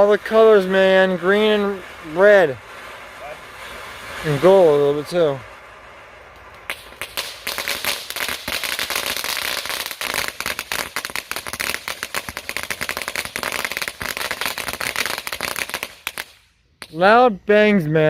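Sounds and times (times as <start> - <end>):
firework cracks and bangs: 0.0 - 17.1.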